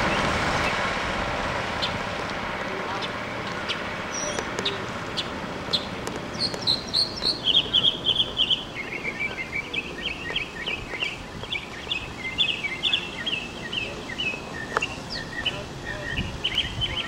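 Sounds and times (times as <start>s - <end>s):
birds chirping: 1.7s - 2.1s, 2.7s - 17.0s.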